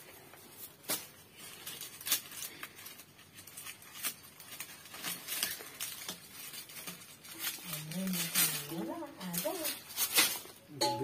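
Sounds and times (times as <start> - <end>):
dried leaves and straw rustling: 0.0 - 11.0
sharp crackles: 0.5 - 10.7.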